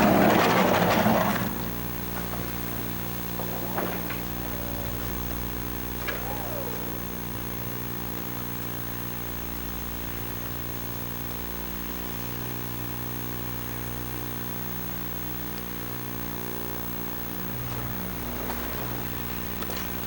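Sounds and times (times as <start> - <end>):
electrical buzz: 0.0 - 20.0
tape hiss: 0.0 - 20.0.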